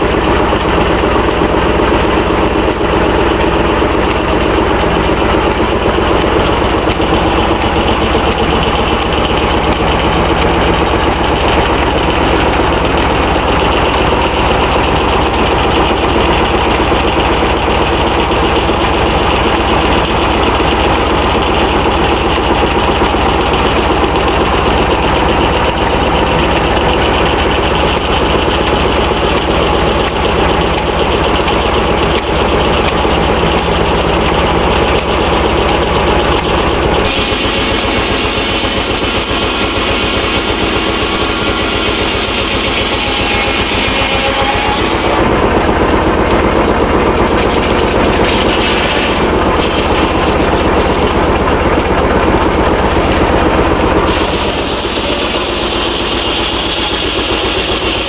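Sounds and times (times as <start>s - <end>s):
sawmill mechanical drone: 0.0s - 58.0s.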